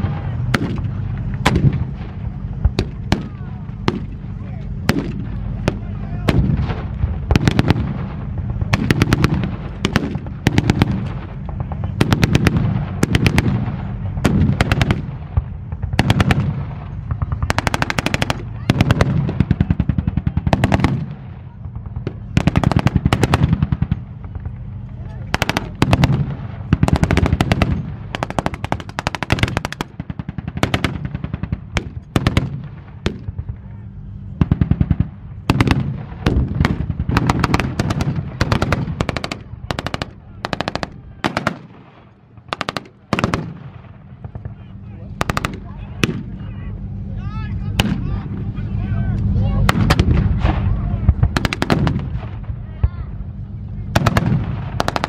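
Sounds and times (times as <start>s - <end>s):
tank engines rumbling: 0.0s - 55.0s.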